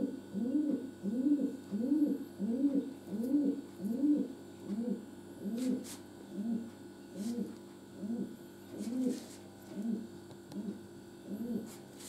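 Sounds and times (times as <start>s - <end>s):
low voice cooing call: 0.0s - 11.8s.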